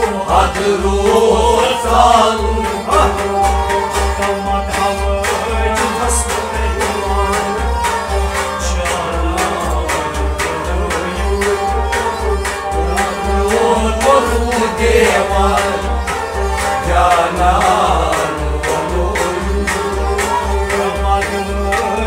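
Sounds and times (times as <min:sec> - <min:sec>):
hand drum beat: 0:00.0 - 0:22.0
sustained melody instruments: 0:00.0 - 0:22.0.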